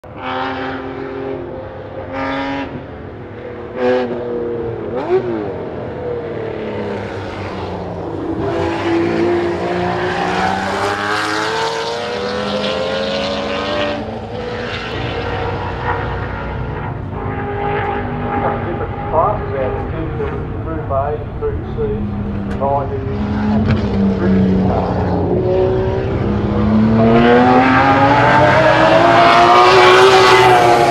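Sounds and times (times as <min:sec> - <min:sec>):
racing car engine revving: 0:03.7 - 0:30.9.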